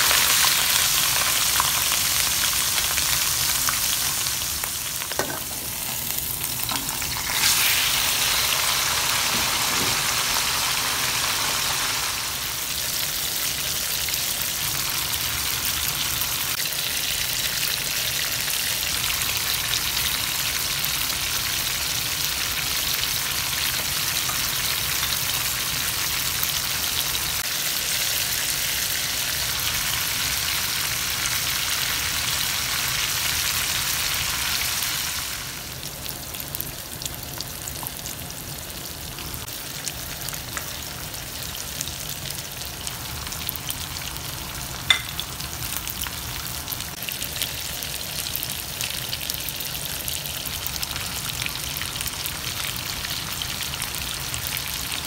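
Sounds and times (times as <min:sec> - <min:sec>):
chicken frying in hot oil: 0:00.0 - 0:55.0.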